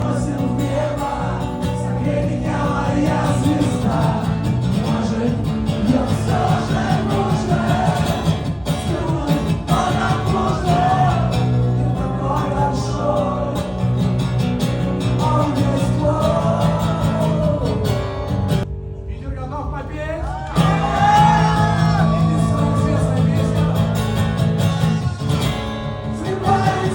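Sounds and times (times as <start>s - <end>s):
man singing: 0.0s - 14.0s, 15.0s - 18.1s, 20.6s - 26.9s.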